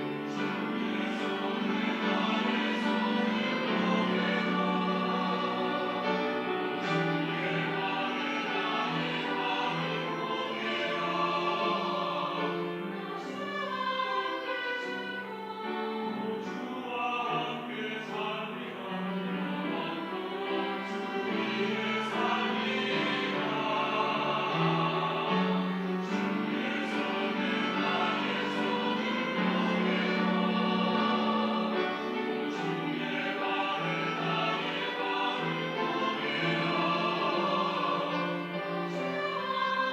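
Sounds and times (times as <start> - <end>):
church choir singing a hymn: 0.0 - 39.9.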